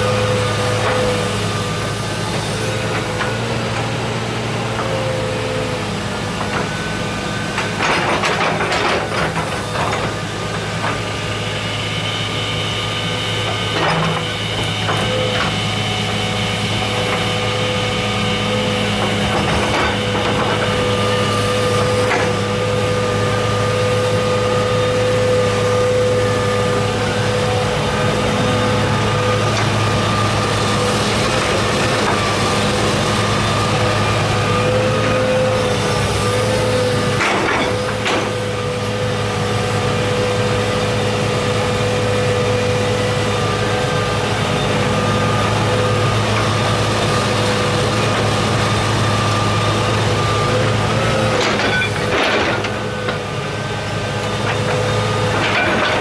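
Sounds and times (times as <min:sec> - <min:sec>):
excavator diesel engine: 0:00.0 - 0:56.0
hydraulic whining: 0:00.0 - 0:56.0.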